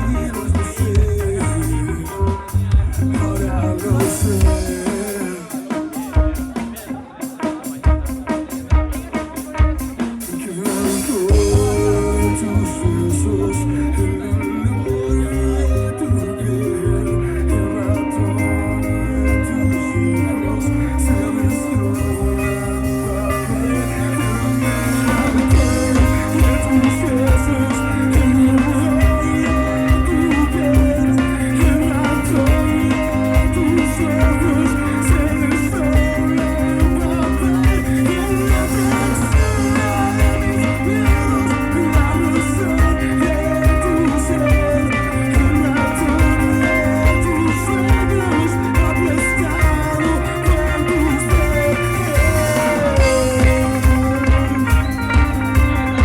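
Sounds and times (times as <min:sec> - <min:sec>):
live band with guitar: 0:00.0 - 0:56.0.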